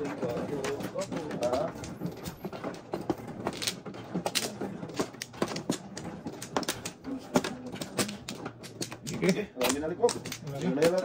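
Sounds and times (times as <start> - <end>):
mahjong tiles clicking: 0.0 - 11.0.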